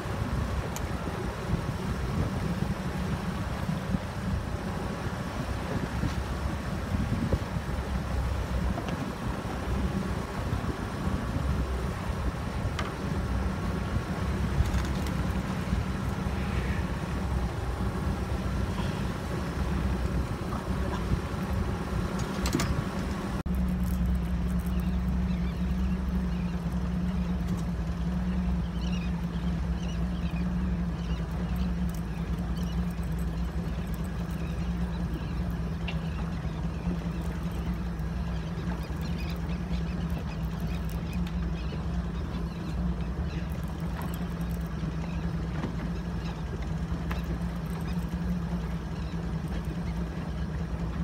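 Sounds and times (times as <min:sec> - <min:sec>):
boat engine humming: 0:00.0 - 0:51.0
water: 0:00.0 - 0:51.0
wind: 0:00.0 - 0:51.0.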